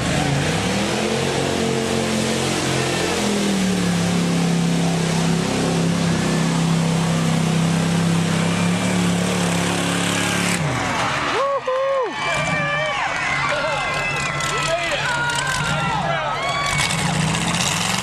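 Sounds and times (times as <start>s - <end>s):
truck engine revving high: 0.0s - 18.0s.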